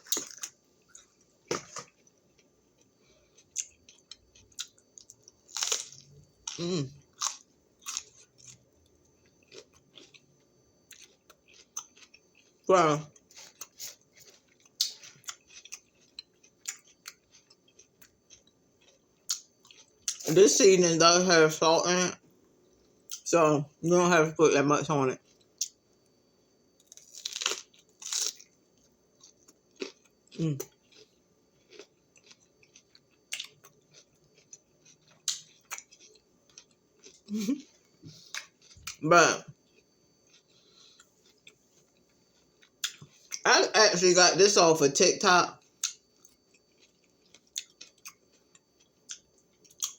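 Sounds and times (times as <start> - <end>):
bell pepper crunching: 0.0 - 8.7, 9.3 - 20.6, 26.8 - 44.6, 45.5 - 49.9.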